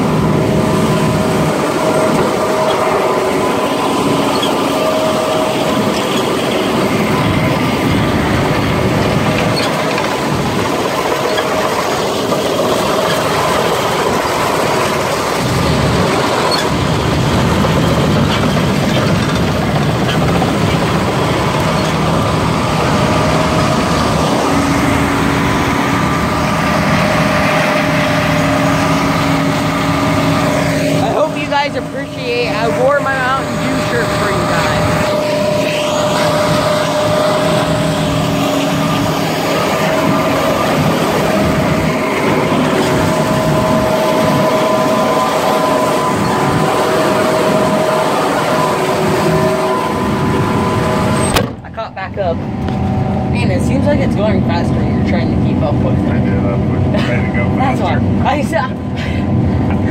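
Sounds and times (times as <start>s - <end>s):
combine harvester engine drone: 0.0s - 59.9s
steady whining tones: 0.0s - 59.9s.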